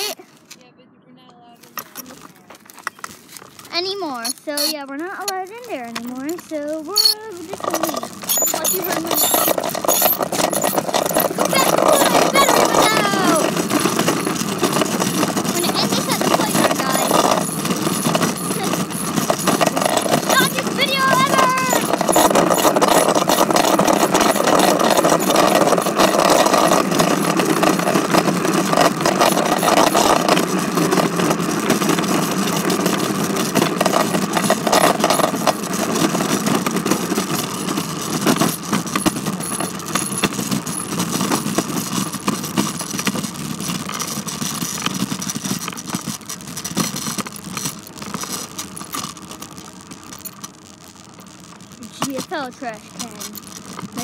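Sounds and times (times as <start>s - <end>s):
bicycle rattling and rumbling: 0.0s - 54.0s.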